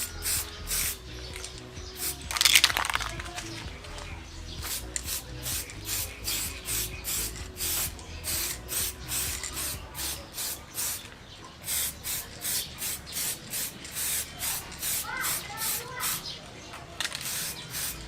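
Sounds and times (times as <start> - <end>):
spray paint hissing in bursts: 0.0 - 3.1, 4.6 - 16.4, 17.0 - 18.0.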